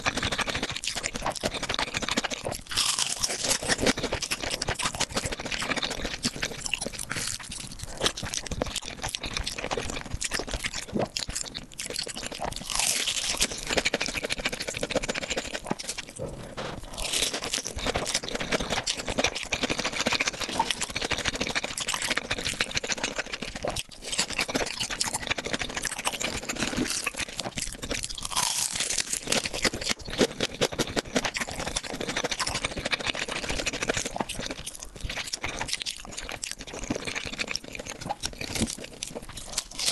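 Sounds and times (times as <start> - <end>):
person crunching and chewing: 0.0 - 39.9.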